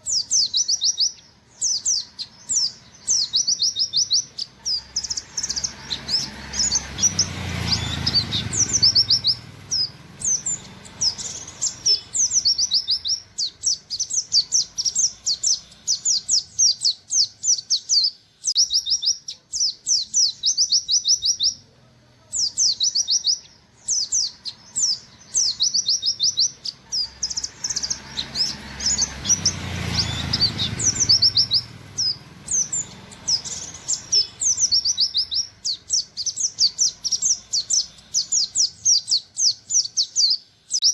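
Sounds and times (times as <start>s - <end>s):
bird singing rapid high notes: 0.0s - 40.9s.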